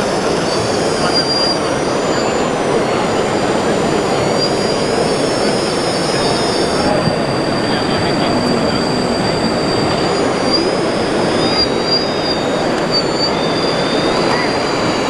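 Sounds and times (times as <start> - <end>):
model truck motors whining: 0.0 - 15.0.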